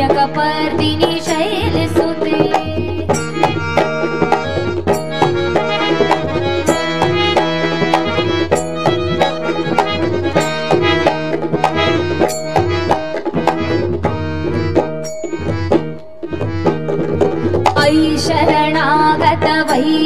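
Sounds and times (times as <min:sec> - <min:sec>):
hand drums beating: 0:00.0 - 0:20.0
harmonium sustained notes: 0:00.0 - 0:20.0.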